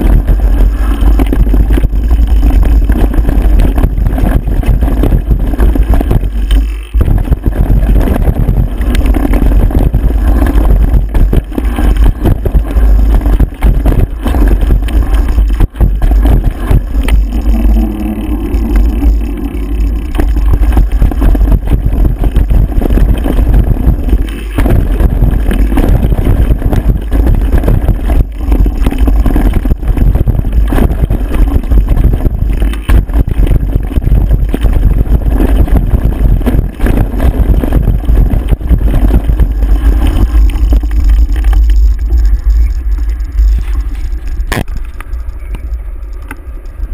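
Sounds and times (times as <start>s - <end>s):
wind buffeting microphone: 0.0s - 44.7s
rattle of riding on dirt trail: 0.0s - 46.9s.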